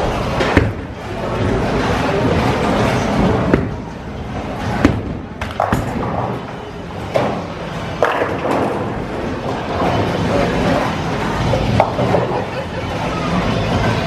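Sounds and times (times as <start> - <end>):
bowling alley clatter: 0.0 - 14.0.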